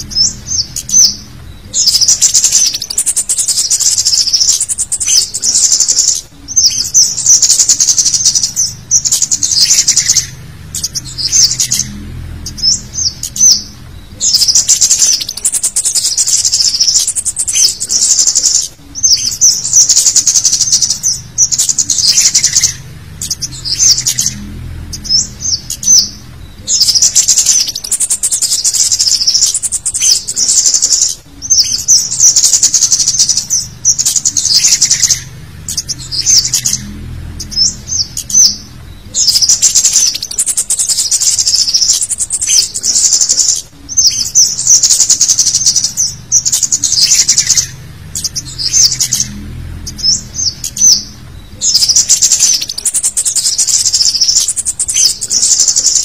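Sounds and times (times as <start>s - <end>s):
bird high-pitched chirps: 0.0s - 56.0s.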